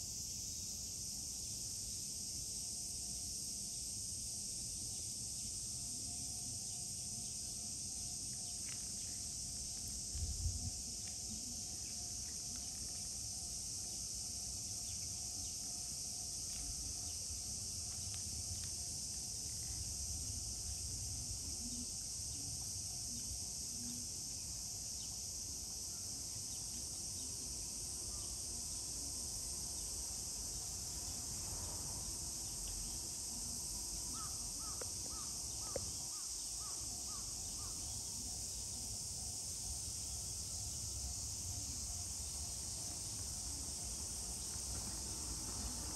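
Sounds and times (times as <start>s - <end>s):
high-pitched insect drone: 0.0s - 45.9s.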